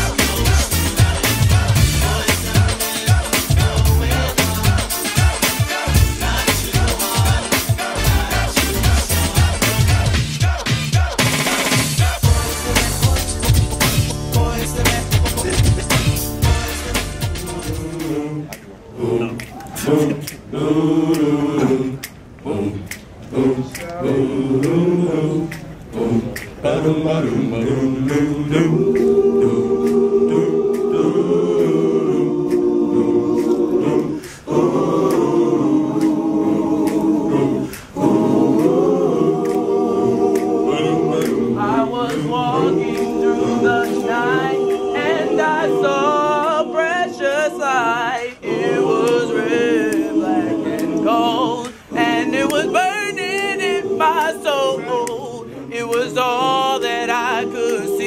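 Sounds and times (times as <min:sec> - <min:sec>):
choir singing held chords: 0:00.0 - 0:58.0
high voices singing with vibrato: 0:00.0 - 0:58.0.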